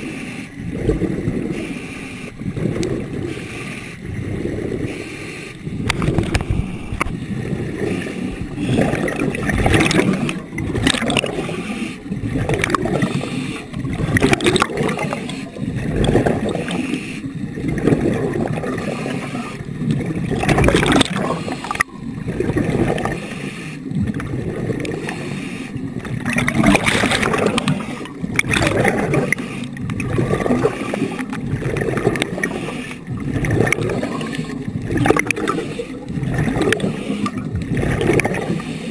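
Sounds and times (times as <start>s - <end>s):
underwater gurgling and rushing: 0.0s - 38.9s.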